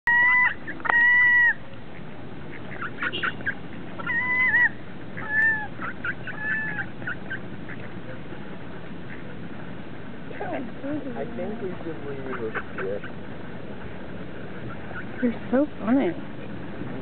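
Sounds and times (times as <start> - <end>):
gulls calling: 0.1 - 16.8.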